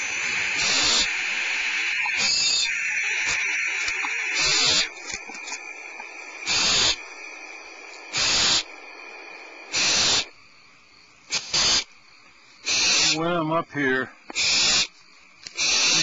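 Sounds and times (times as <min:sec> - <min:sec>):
owls hissing: 0:00.0 - 0:10.4, 0:11.3 - 0:11.9, 0:12.6 - 0:13.3, 0:14.3 - 0:16.0.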